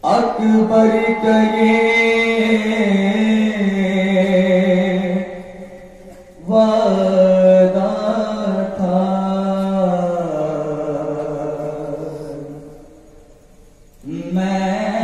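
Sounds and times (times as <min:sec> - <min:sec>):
man chanting a lament: 0:00.0 - 0:13.0, 0:14.0 - 0:15.0.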